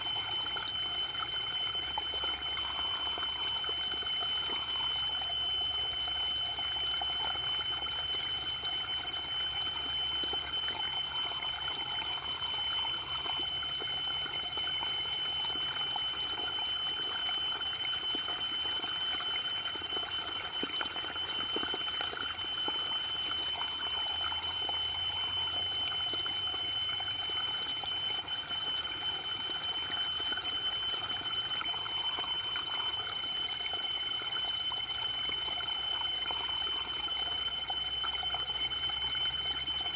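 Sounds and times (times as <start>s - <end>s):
thin high-pitched tone: 0.0s - 39.9s.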